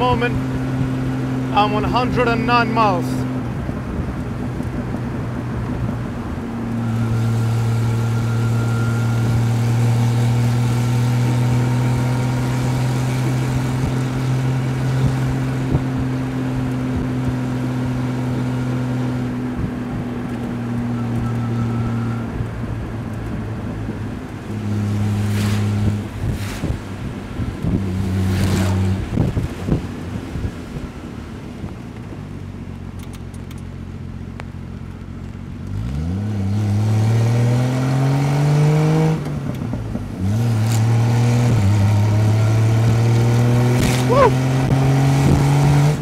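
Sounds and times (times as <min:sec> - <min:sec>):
car engine droning: 0:00.0 - 0:46.0
wind and tyres on wet road: 0:00.0 - 0:46.0.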